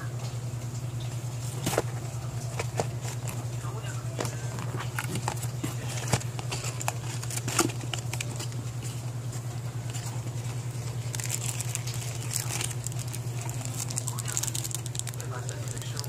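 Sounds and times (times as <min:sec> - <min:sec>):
steady low hum: 0:00.0 - 0:16.0
cardboard rustling: 0:01.4 - 0:16.0.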